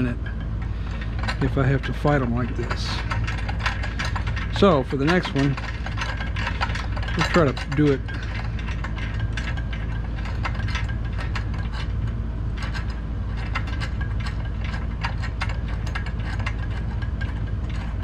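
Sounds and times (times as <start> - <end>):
metal nuts clicking and clinking: 0.0 - 18.0
steady low hum: 0.0 - 18.0.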